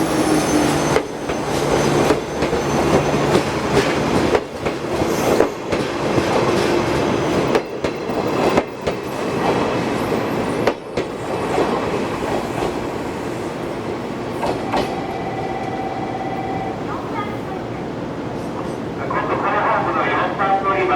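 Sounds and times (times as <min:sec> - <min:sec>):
train rumble: 0:00.0 - 0:20.9.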